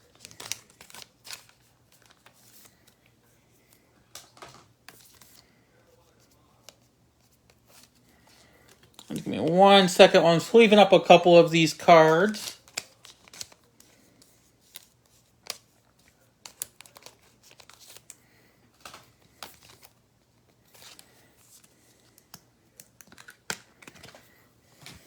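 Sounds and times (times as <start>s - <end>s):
plastic card sleeves crinkling: 0.0s - 5.5s, 6.1s - 25.0s.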